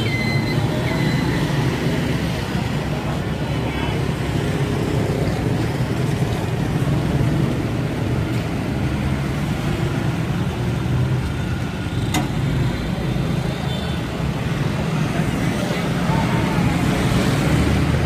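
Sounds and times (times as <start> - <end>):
motorbike engines in traffic: 0.0 - 18.0.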